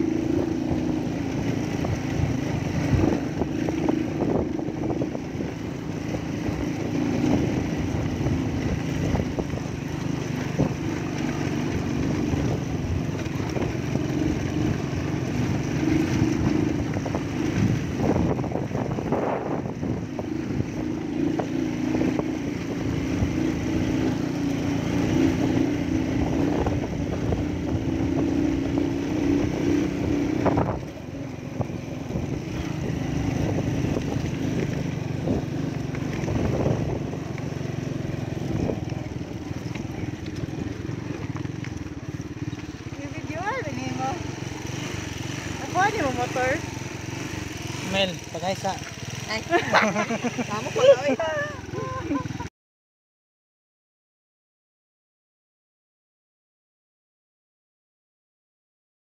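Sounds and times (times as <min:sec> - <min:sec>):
motorcycle engine running: 0:00.0 - 0:52.5
road and wind noise: 0:00.0 - 0:52.5.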